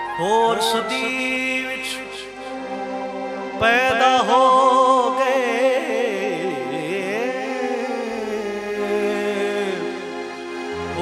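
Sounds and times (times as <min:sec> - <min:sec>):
man singing ornamented melody: 0:00.0 - 0:10.2, 0:10.8 - 0:11.0
steady held notes: 0:00.0 - 0:11.0.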